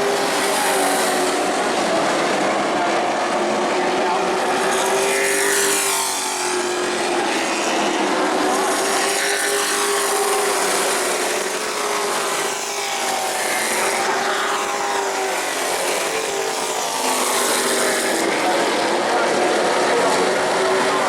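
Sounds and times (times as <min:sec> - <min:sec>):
racing truck engines revving: 0:00.0 - 0:21.0.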